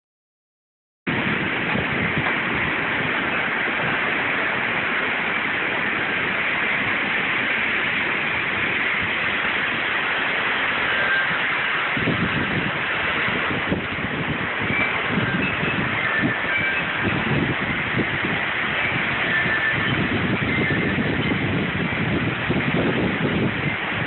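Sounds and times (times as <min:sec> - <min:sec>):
heavy rain pouring: 0:01.1 - 0:24.0
wind gusting through trees: 0:01.1 - 0:24.0.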